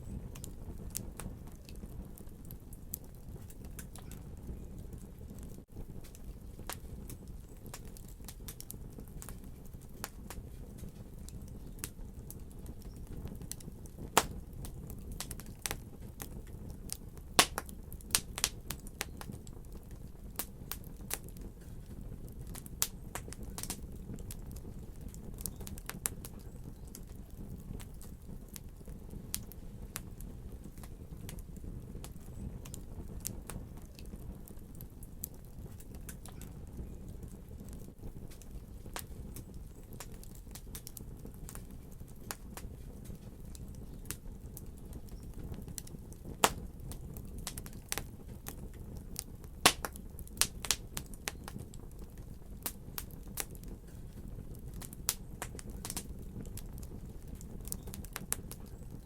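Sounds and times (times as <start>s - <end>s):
fire flames rumbling: 0.0s - 59.0s
logs crackling and popping: 0.0s - 59.0s.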